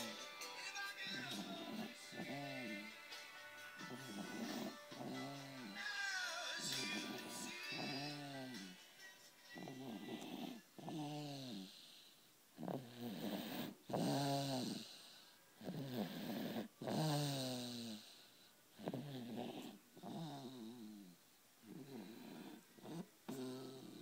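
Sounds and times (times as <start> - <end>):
snoring: 0.0 - 0.4, 1.0 - 3.1, 3.8 - 8.8, 9.5 - 24.0.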